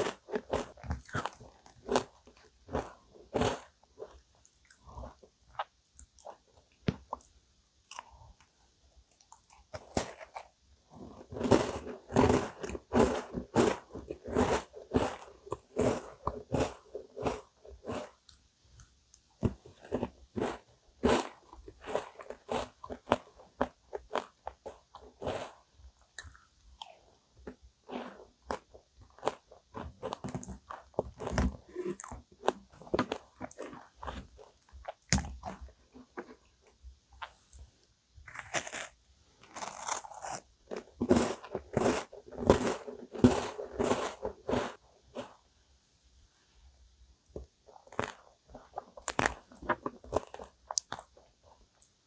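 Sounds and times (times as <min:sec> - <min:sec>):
chewing and crunching food: 0:00.0 - 0:45.4, 0:47.3 - 0:52.0.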